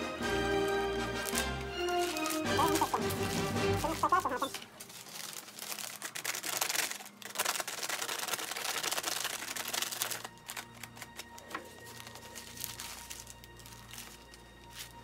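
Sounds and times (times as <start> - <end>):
crumpled sheet crinkling: 0.6 - 15.0.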